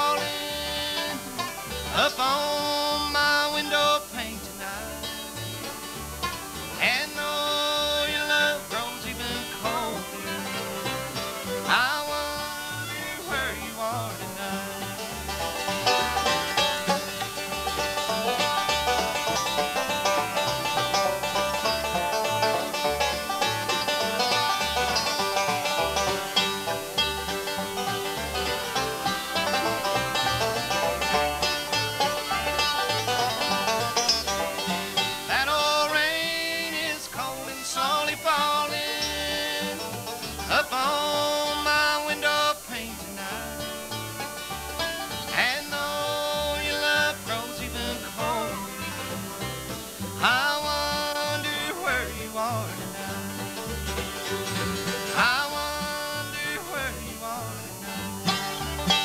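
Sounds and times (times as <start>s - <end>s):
acoustic guitar: 0.0s - 59.0s
fiddle playing: 0.0s - 59.0s.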